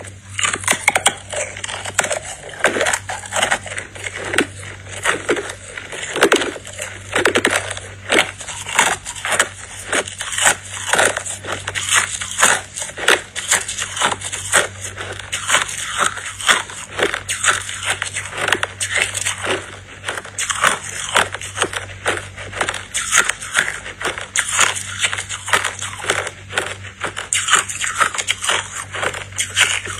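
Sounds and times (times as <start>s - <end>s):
chewing crushed ice: 0.0s - 29.9s.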